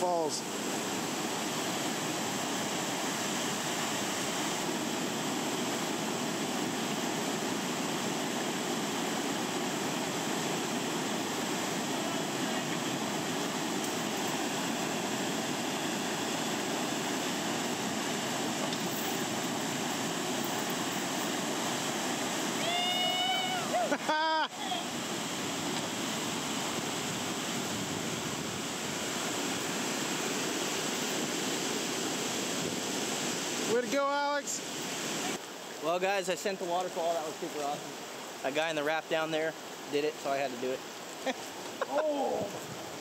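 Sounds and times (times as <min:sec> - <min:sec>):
whitewater rushing over waterfall: 0:00.0 - 0:43.0.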